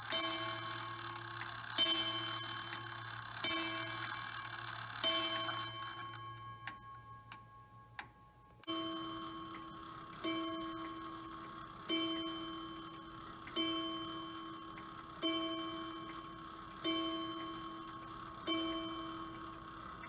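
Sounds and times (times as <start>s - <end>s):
clock striking ringing tones: 0.0s - 20.0s.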